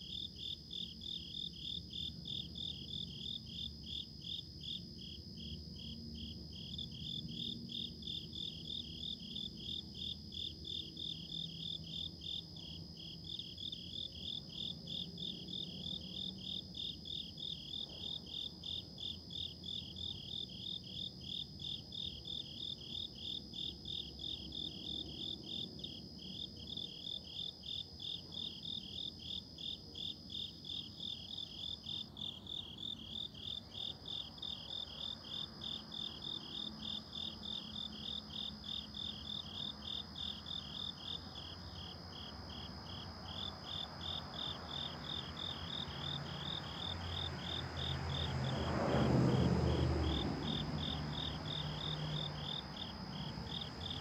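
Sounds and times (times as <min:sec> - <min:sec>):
high-pitched insect trill: 0:00.0 - 0:48.6, 0:49.3 - 0:54.0
insects chirping: 0:00.0 - 0:54.0.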